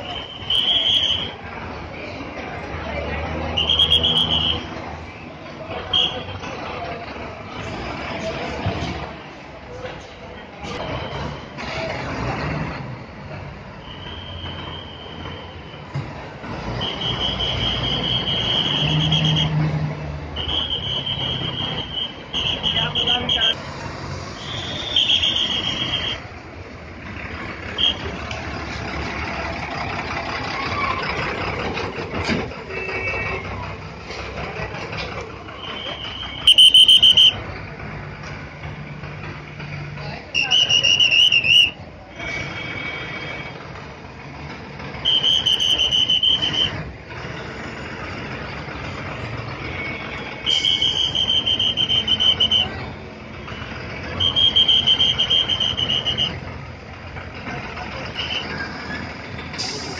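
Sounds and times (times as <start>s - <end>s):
bus engines running: 0.0s - 59.9s.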